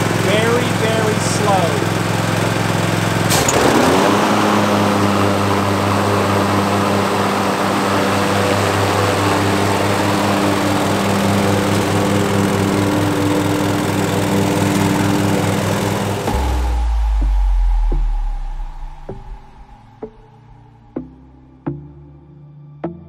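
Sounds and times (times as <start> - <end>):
mower engine running: 0.0 - 19.0.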